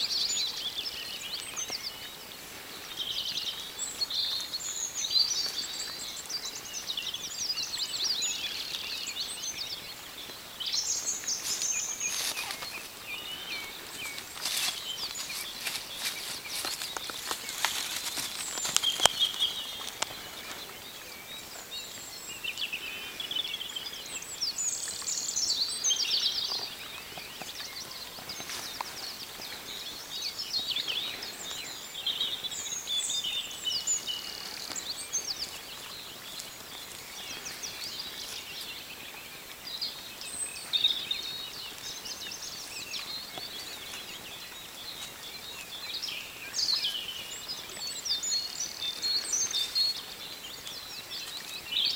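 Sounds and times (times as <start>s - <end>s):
songbirds singing and twittering: 0.0s - 51.9s
steady outdoor hiss: 0.0s - 51.9s.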